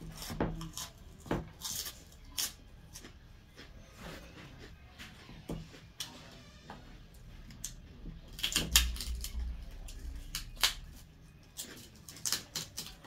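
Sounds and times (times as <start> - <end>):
crunchy chewing: 0.0 - 6.2, 7.1 - 13.0.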